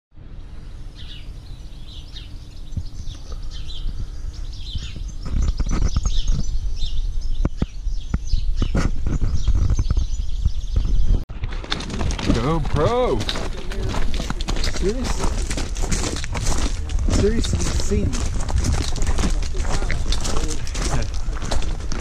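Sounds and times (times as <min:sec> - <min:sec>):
birds chirping: 0:00.2 - 0:22.0
low rumble: 0:00.2 - 0:22.0.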